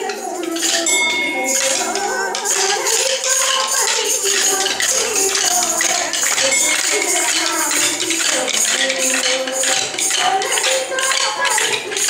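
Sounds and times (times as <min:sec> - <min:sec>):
music with melody: 0:00.0 - 0:12.0
sticks clicking together: 0:01.6 - 0:12.0.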